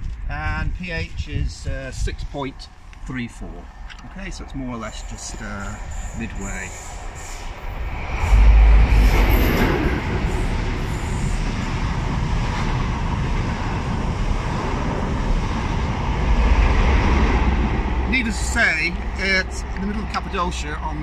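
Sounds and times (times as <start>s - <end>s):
electric train passing: 2.6s - 21.0s.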